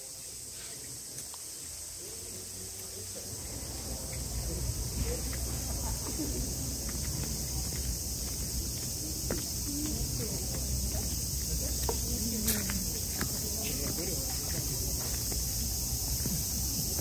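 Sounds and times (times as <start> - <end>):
faint distant voices: 0.0 - 17.0
high-pitched insect drone: 0.0 - 17.0.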